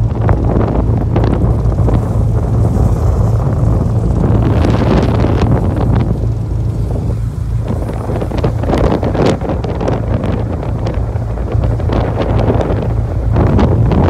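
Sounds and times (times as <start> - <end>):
boat engine low drone: 0.0 - 14.0
wind buffeting microphone: 0.0 - 14.0.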